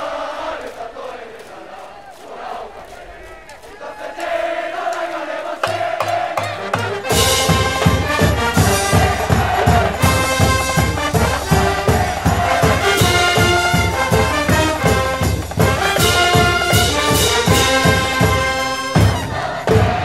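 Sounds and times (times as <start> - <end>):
trumpets and trombones: 0.0 - 20.0
fast steady drum beat: 1.2 - 20.0.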